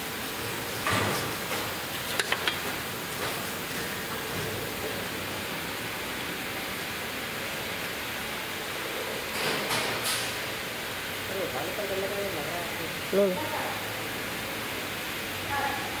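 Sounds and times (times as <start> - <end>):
workshop background hiss: 0.0 - 16.0.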